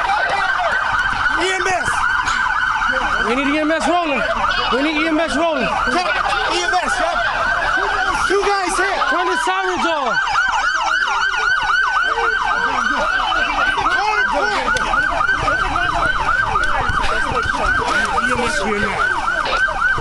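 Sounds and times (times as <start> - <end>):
police sirens yelping: 0.0 - 20.0.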